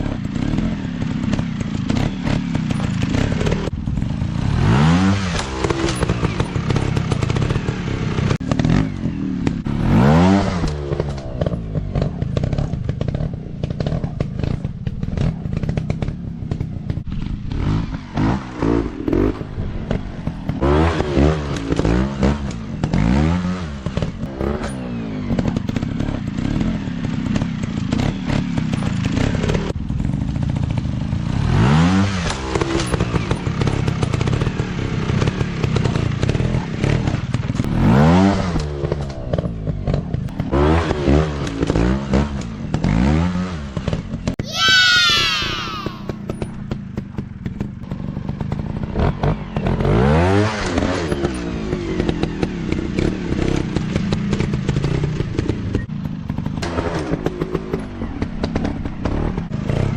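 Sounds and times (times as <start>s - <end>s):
trail bike engines revving: 0.0s - 59.9s.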